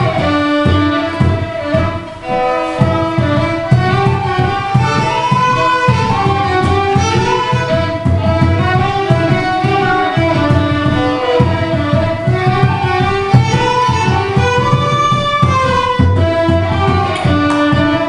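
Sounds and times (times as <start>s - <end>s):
fiddle playing dance tune: 0.0s - 18.0s
low rhythmic accompaniment: 0.0s - 18.0s.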